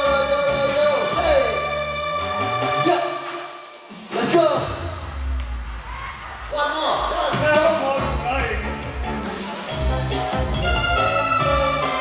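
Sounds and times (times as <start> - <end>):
music with long held notes: 0.0 - 5.8, 7.6 - 12.0.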